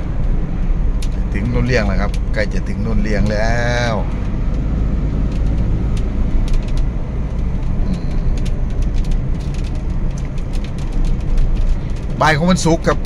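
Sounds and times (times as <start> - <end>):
car engine and tyre rumble: 0.0 - 13.0
raindrops tapping on windshield: 0.0 - 13.0.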